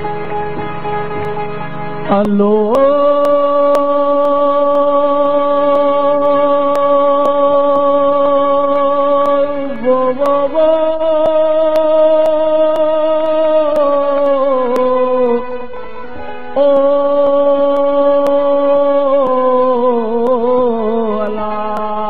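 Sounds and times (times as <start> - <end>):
man singing with accompaniment: 2.0 - 22.0.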